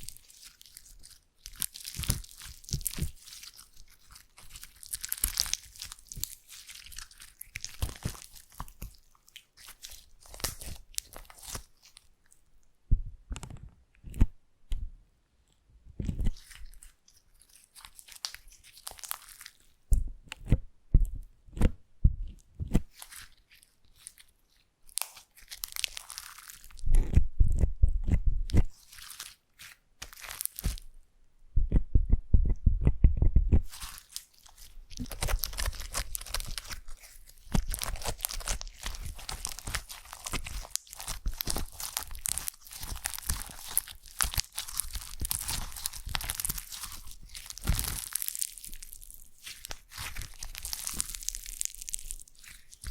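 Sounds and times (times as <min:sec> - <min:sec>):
slime squishing and crackling: 0:00.0 - 0:12.4, 0:16.0 - 0:21.7, 0:22.7 - 0:30.9, 0:33.5 - 0:52.9.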